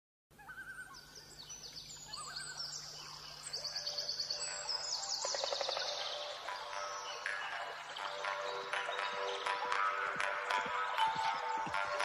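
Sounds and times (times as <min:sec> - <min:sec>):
songbirds chirping and whistling: 0:00.3 - 0:12.0.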